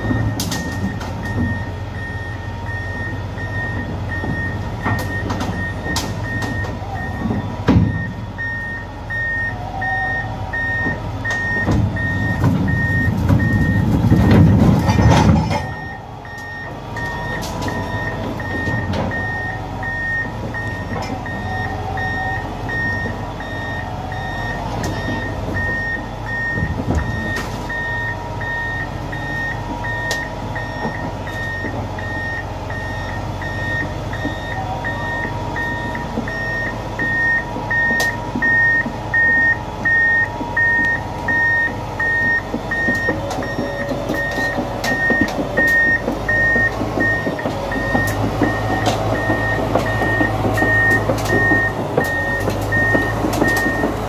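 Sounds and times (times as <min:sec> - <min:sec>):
diesel engine running: 0:00.0 - 0:54.0
reverse alarm beeping: 0:00.0 - 0:54.0.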